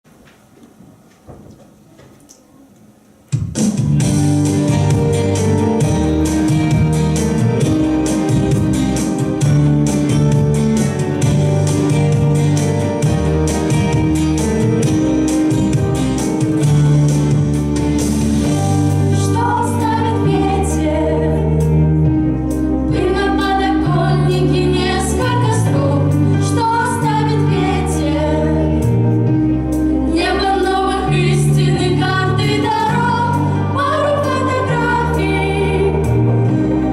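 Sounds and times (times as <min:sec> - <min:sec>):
instrumental accompaniment: 0:03.2 - 0:36.9.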